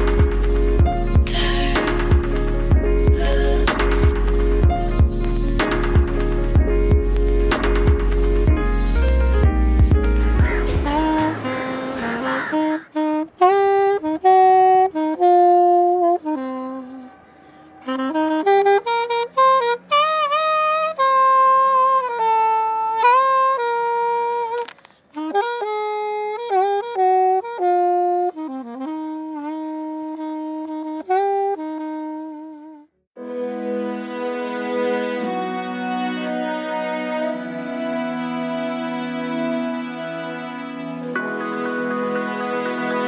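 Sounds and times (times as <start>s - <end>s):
music: 0.0s - 43.0s
saxophone slow melody: 0.0s - 43.0s.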